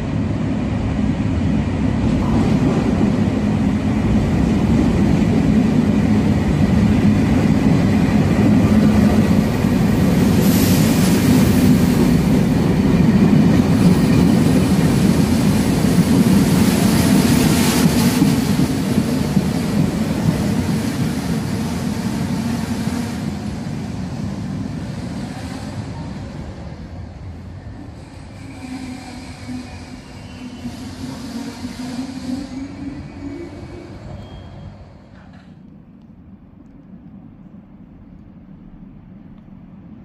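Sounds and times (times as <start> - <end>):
train rumbling past: 0.0 - 40.0.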